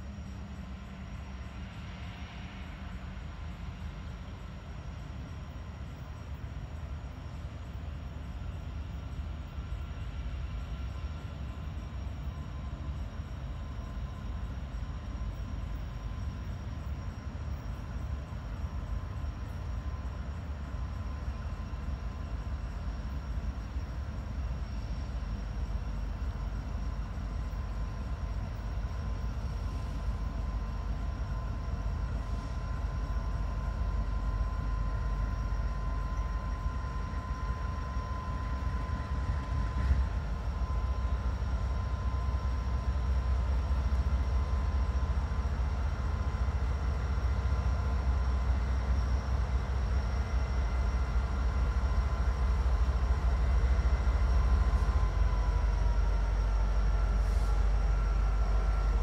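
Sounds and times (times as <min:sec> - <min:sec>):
diesel locomotive engine rumble: 0:00.0 - 0:59.0
steady whine: 0:00.0 - 0:59.0.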